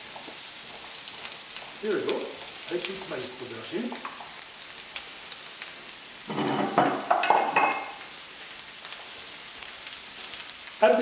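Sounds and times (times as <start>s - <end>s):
aubergine sizzling in oil: 0.0s - 11.0s.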